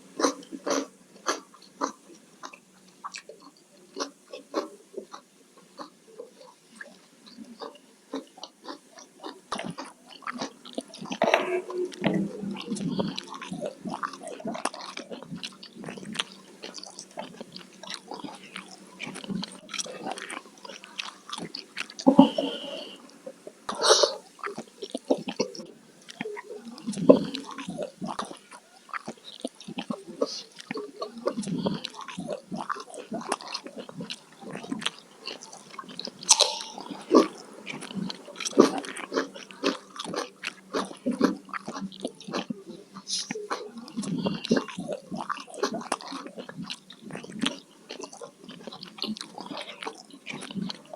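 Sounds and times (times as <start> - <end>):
wet chewing and mouth smacking: 0.2 - 5.2, 5.8 - 11.3, 11.9 - 22.5, 23.7 - 50.9.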